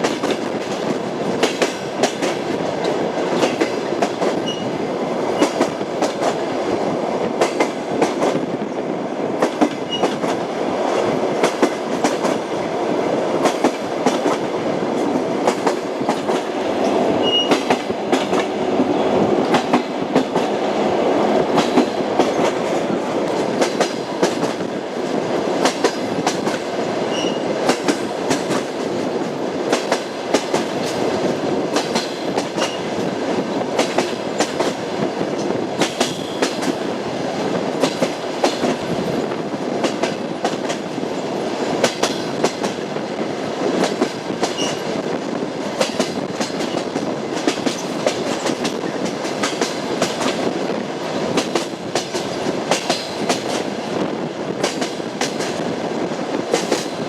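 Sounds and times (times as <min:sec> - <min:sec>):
train wheels clattering over rail joints: 0:00.0 - 0:06.5, 0:07.3 - 0:08.5, 0:09.4 - 0:12.5, 0:13.4 - 0:20.6, 0:21.2 - 0:36.8, 0:37.4 - 0:53.8, 0:54.5 - 0:55.7, 0:56.4 - 0:57.0.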